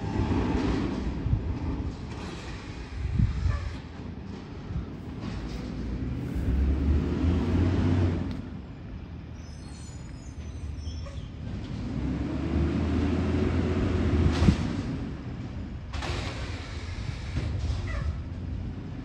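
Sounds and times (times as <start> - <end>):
heavy truck engine rumbling: 0.0 - 19.0.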